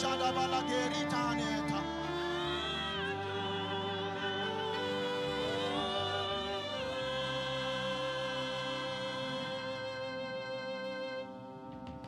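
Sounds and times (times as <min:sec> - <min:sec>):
gospel worship music: 0:00.0 - 0:12.0.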